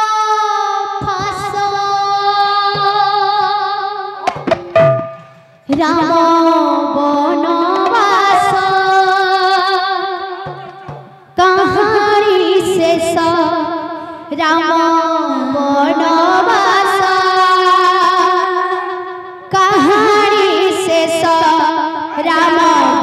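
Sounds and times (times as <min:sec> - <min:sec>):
woman singing through loudspeakers: 0:00.0 - 0:04.5, 0:05.7 - 0:23.0.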